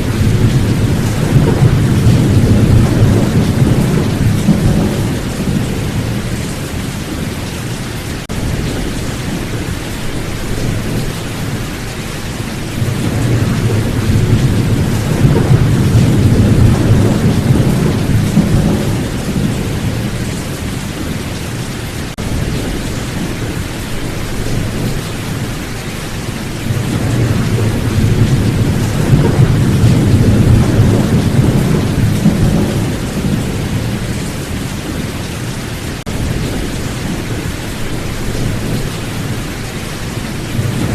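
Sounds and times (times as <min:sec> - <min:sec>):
thunder rolling: 0:00.0 - 0:07.5, 0:08.2 - 0:35.1, 0:36.0 - 0:40.9
heavy rain: 0:00.0 - 0:40.9.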